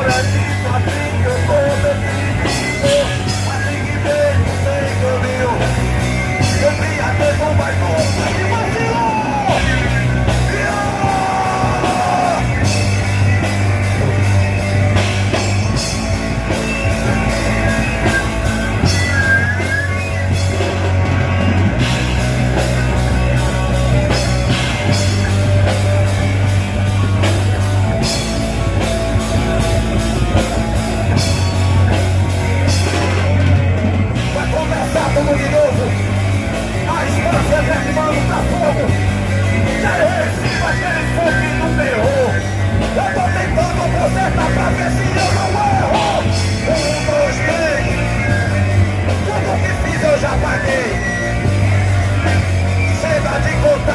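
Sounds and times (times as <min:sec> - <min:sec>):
person singing and shouting: 0:00.0 - 0:28.0, 0:30.4 - 0:53.9
rock band playing live: 0:00.0 - 0:53.9.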